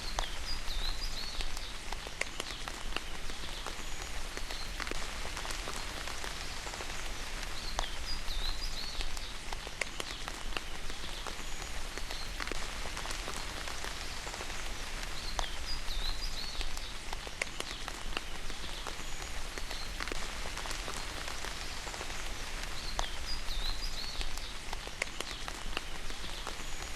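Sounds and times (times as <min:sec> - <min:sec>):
raindrops clicking close by: 0:00.0 - 0:26.9
steady rain hiss: 0:00.0 - 0:26.9.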